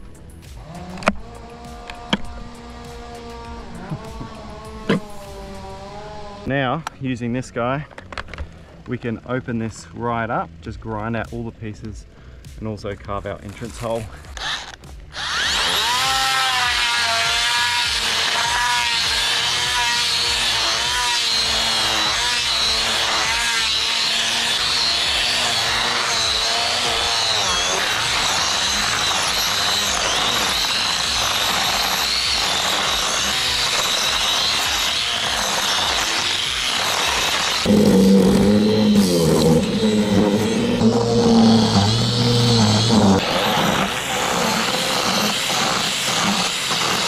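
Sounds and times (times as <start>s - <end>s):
angle grinder grinding wood: 0.0s - 10.4s, 13.2s - 47.0s.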